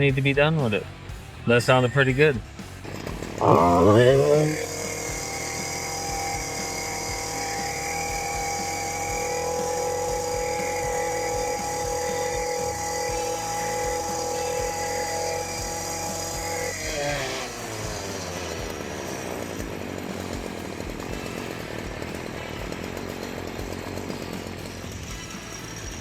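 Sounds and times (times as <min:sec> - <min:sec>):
edger engine whining at high revs: 0:01.7 - 0:26.0.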